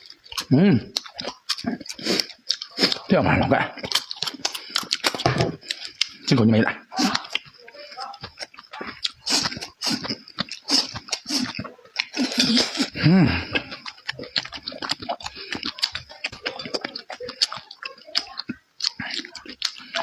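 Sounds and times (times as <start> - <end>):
chewing and crunching food: 0.0 - 20.0.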